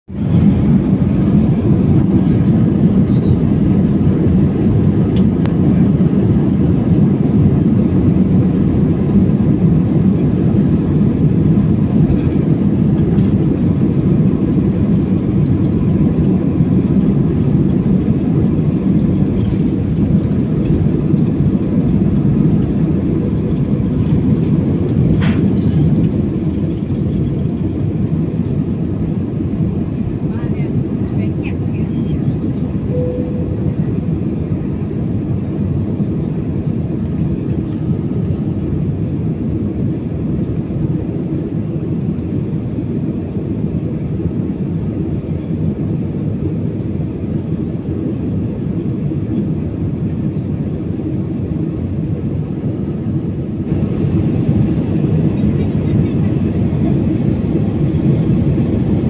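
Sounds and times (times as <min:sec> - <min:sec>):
jet engines rumbling at takeoff: 0:00.1 - 0:59.0.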